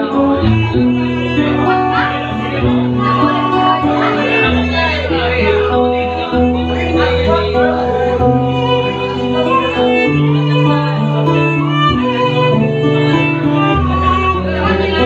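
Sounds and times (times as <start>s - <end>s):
acoustic guitar accompaniment: 0.0s - 15.0s
violin melody: 0.0s - 15.0s.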